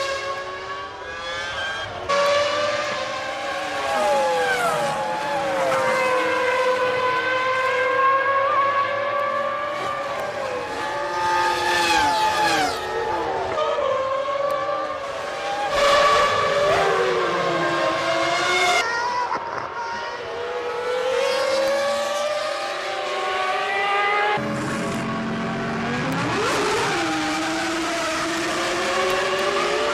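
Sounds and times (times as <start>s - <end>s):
racing car engines at high revs: 0.0s - 29.9s.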